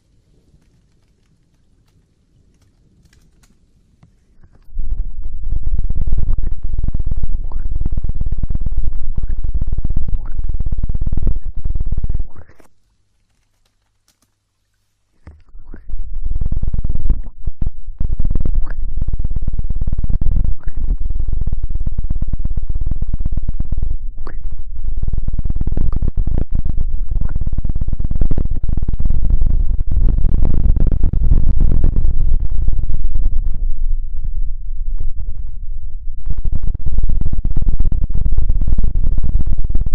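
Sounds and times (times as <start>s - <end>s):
crackling and scrubbing on microphone: 0.0s - 39.9s.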